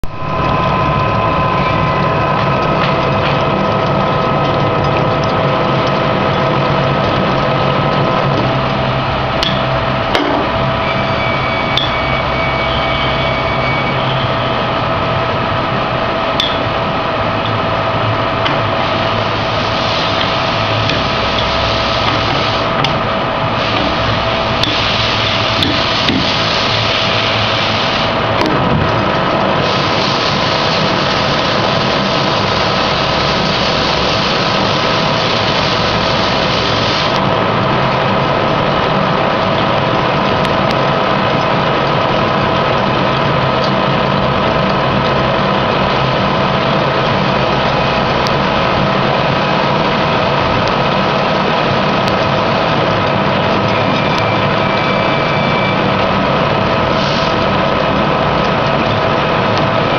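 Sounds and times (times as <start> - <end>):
threading machine humming: 0.0 - 59.9.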